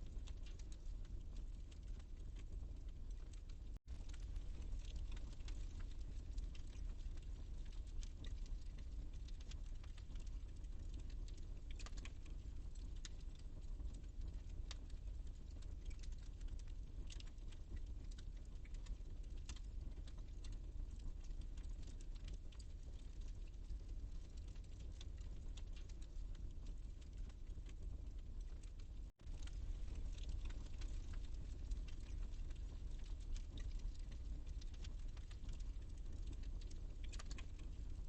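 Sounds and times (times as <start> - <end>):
fireplace fire crackling: 0.0 - 38.0.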